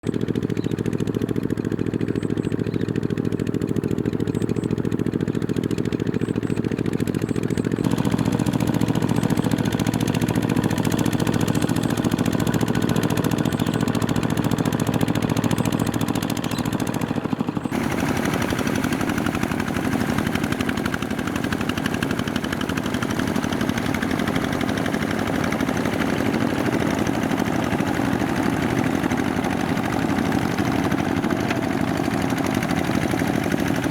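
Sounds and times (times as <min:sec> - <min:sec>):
diesel tractor engine knocking: 0:00.0 - 0:33.9.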